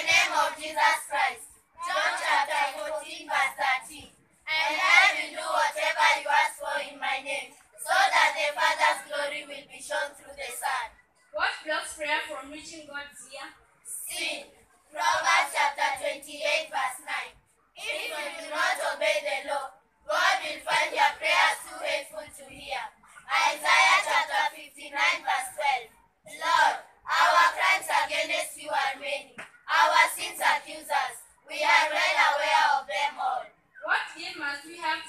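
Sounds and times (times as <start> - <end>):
children's choir speaking in unison: 0.0 - 11.0, 13.9 - 33.5.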